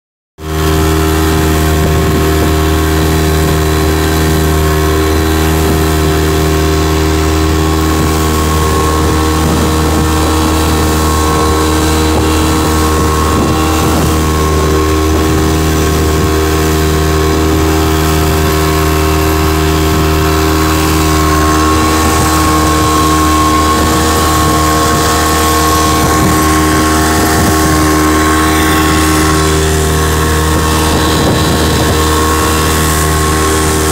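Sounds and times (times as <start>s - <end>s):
boat wake splashing: 0.4s - 33.9s
outboard motor droning: 0.4s - 33.9s.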